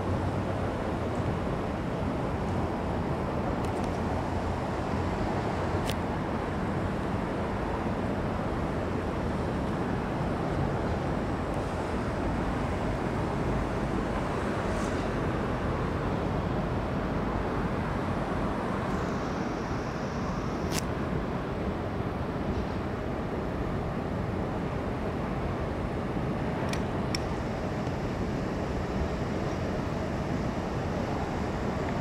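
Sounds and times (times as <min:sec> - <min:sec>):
river boat engine rumble: 0:00.0 - 0:32.0.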